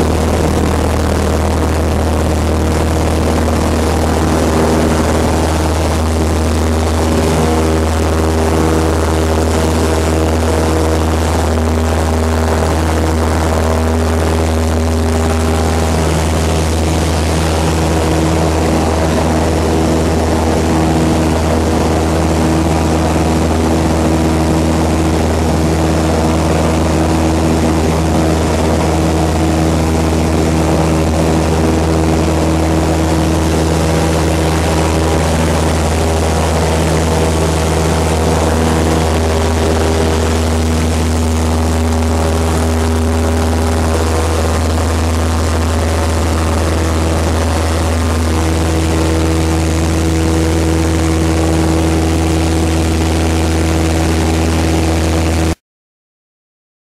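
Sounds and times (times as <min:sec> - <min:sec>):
aircraft engine and propeller drone: 0:00.0 - 0:55.6.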